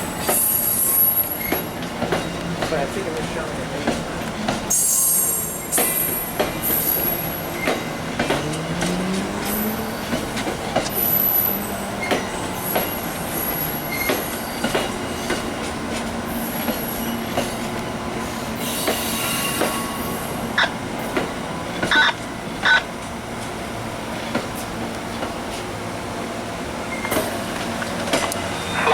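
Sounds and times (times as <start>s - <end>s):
train rumble: 0.0s - 28.9s
train wheels clicking over rail joints: 0.1s - 25.8s, 26.9s - 28.6s.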